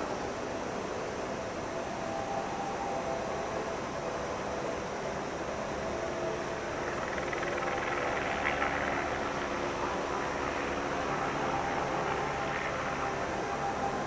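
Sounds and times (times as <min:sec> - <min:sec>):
helicopters hovering drone: 0:00.0 - 0:14.0.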